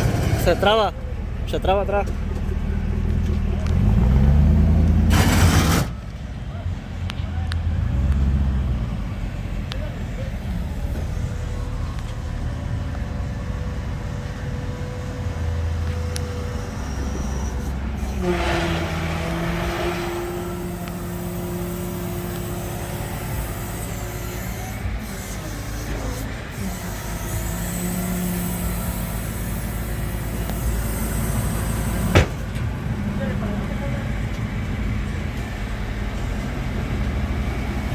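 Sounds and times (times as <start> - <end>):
vehicle engine rumbling: 0.0 - 37.9.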